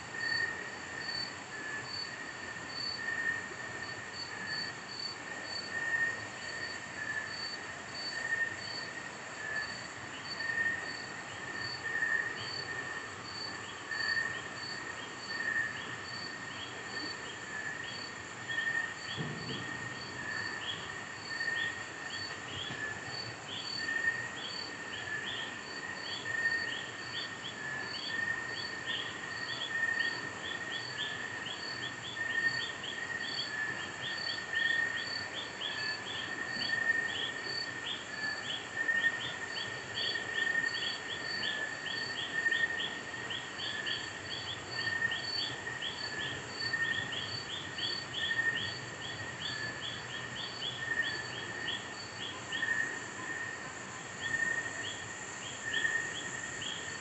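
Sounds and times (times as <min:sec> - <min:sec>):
insects high wavering drone: 0:00.0 - 0:57.0.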